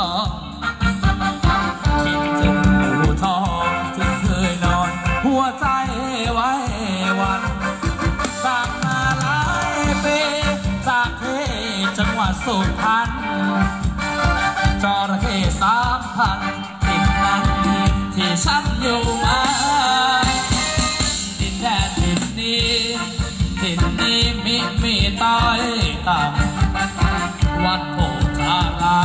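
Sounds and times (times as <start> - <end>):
drums and bass beat: 0.0 - 29.0.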